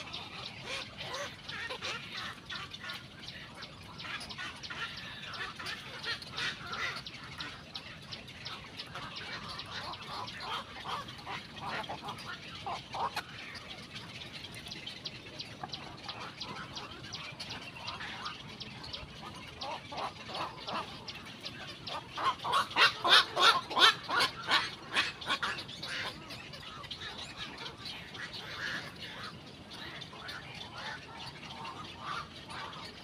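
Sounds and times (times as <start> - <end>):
herons squawking: 0.0 - 33.0
rapid heron calls: 0.0 - 33.0.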